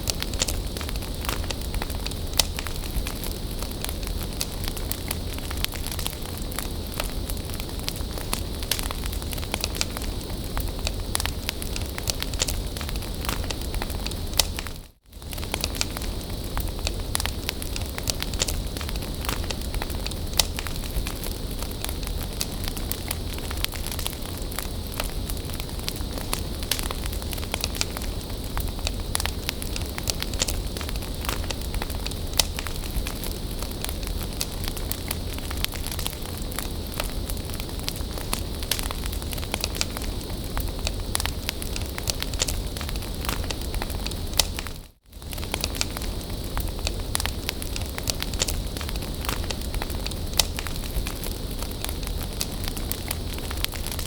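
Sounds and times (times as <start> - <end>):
bonfire hissing: 0.0 - 54.0
fire crackles and pops: 0.0 - 54.0.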